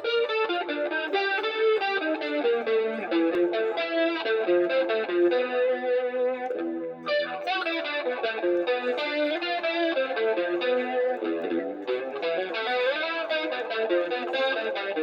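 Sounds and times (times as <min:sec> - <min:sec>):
electric guitar picked notes: 0:00.0 - 0:15.0.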